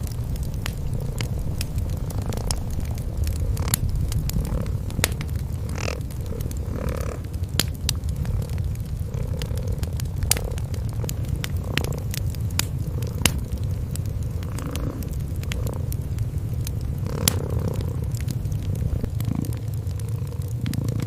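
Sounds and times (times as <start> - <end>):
cats purring: 0.0 - 21.0
wood fire crackling and popping: 0.0 - 21.0.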